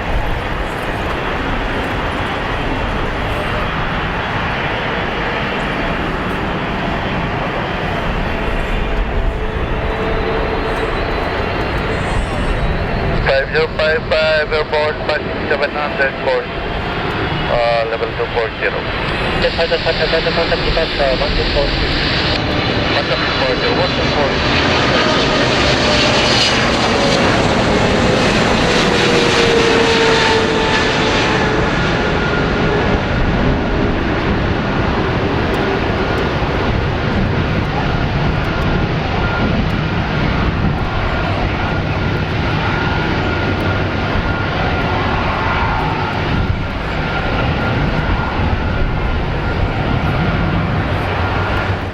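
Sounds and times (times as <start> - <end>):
jet engine whine: 0.0 - 51.9
jet engines roaring: 0.0 - 51.9.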